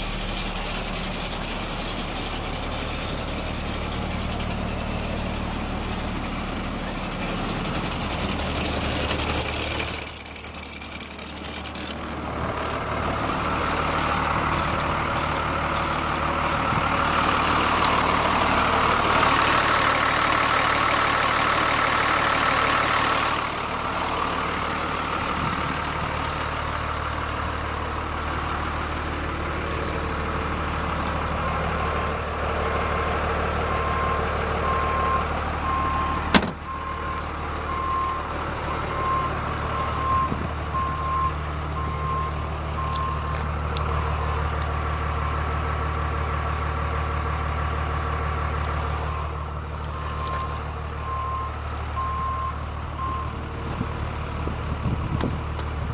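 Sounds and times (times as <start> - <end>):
diesel bus engine idling: 0.0 - 55.9.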